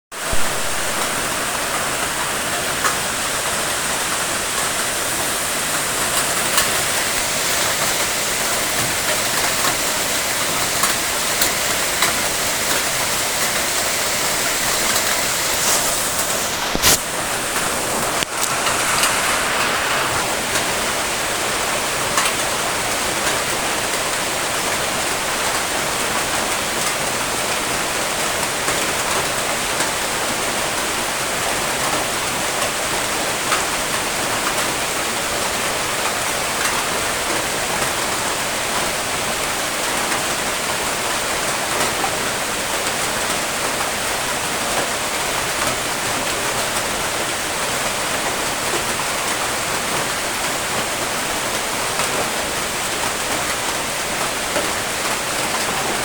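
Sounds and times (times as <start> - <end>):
steady rain falling: 0.1 - 56.0.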